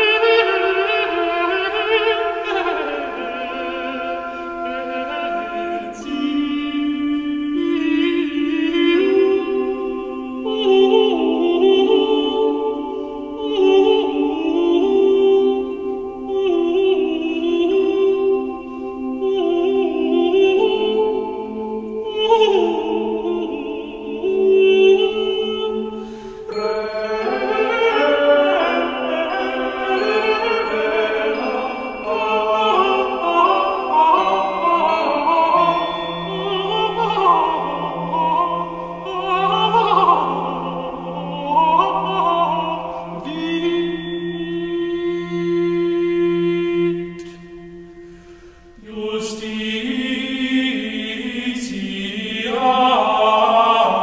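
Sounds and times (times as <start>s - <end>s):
tenor holding sustained notes: 0.0s - 54.0s
upper voice singing melismas: 0.0s - 54.0s.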